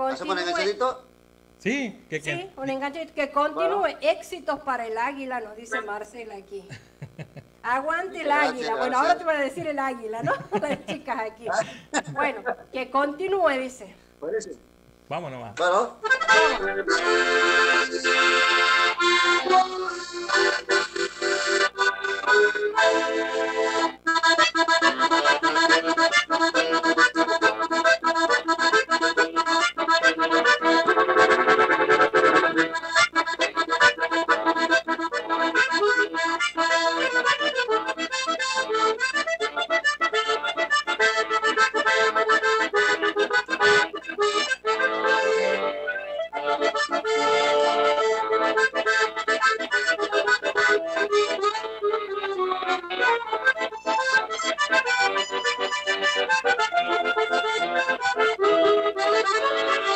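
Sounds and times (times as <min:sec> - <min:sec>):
accordion playing: 0:00.0 - 0:00.9, 0:02.2 - 0:13.8, 0:16.0 - 0:59.9.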